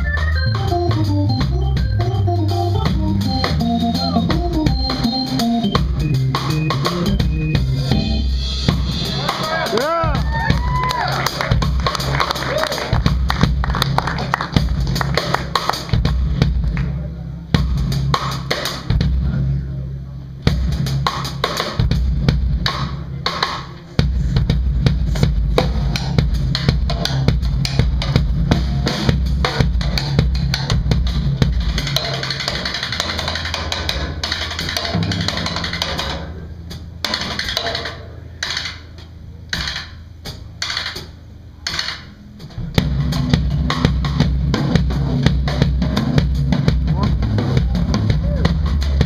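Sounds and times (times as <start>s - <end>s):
drum breaks: 0.0s - 49.0s
live swing band: 0.0s - 49.0s.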